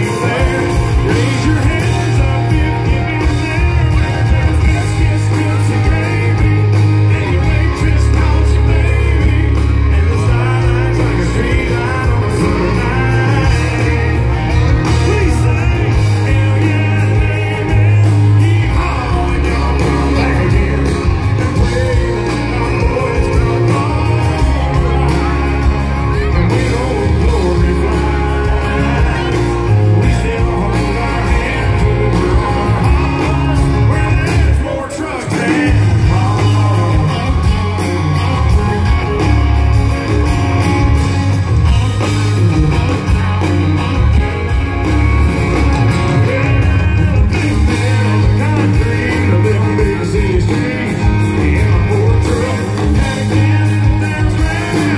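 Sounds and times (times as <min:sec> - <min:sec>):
live country rock band: 0:00.0 - 0:54.9
person singing: 0:00.0 - 0:54.9.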